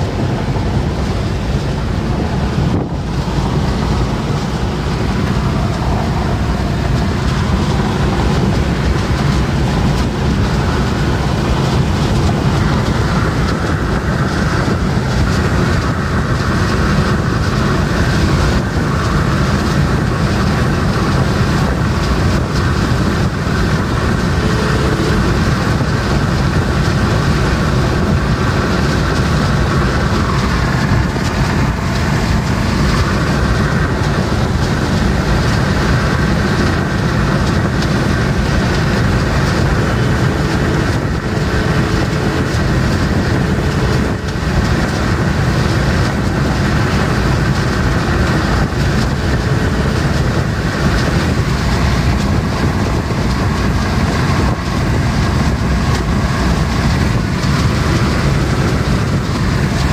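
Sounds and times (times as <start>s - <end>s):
car cabin road noise: 0.0s - 59.9s.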